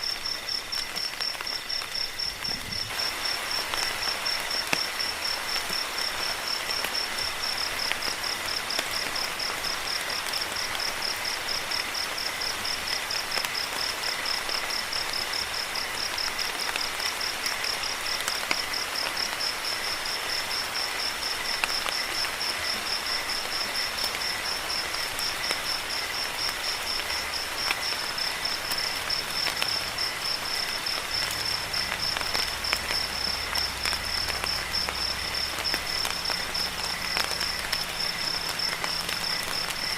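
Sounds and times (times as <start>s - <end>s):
crickets chirping: 0.0s - 39.9s
rain falling: 0.0s - 39.9s.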